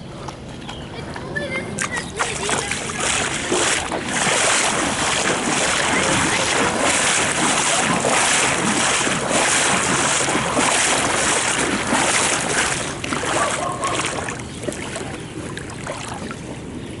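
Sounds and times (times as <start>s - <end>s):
water rushing into a drain: 2.2s - 16.4s.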